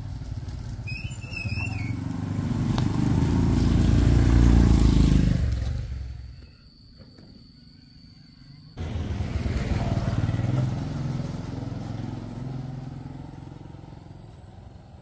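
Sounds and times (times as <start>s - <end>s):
motor vehicle engine running: 0.0s - 6.6s, 8.8s - 15.0s.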